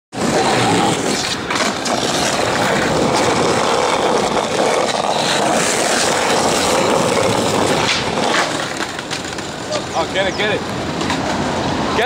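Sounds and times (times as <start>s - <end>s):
skateboard wheels rolling on paving: 0.1s - 12.0s
wheels clicking over slab joints: 0.2s - 11.4s.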